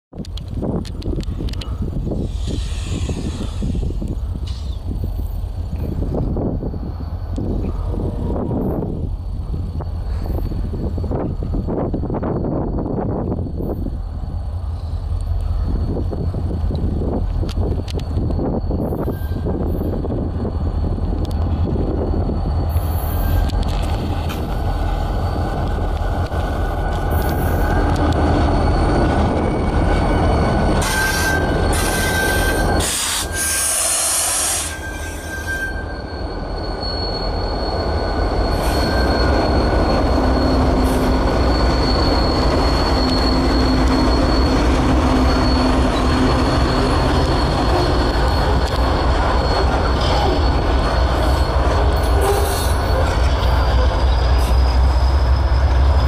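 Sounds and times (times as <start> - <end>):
diesel locomotives rumbling: 0.1 - 56.0
high wheel squeal: 1.0 - 56.0.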